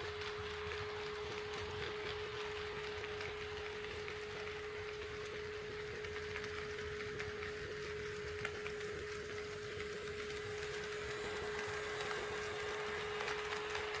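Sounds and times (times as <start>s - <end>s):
model train whine: 0.0s - 14.0s.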